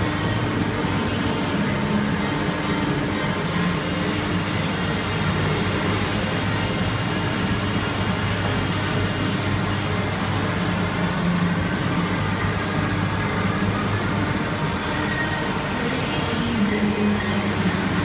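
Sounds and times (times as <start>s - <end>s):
high machine whine: 0.0s - 18.0s
lathe low hum: 0.0s - 18.0s.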